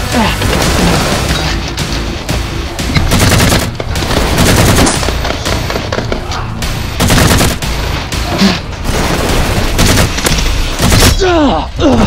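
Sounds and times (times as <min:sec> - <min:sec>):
rapid gunshots with booms: 0:00.3 - 0:01.6, 0:02.2 - 0:11.3.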